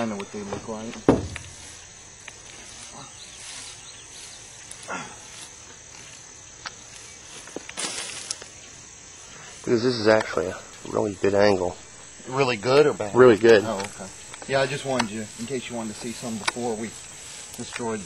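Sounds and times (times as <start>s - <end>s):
dry grass crackling and rustling: 0.0s - 18.0s
insects trilling: 0.0s - 18.0s.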